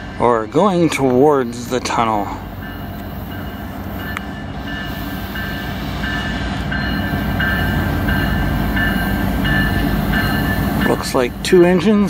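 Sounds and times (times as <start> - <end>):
freight train rumble: 0.0 - 12.0
locomotive bell ringing: 0.0 - 12.0.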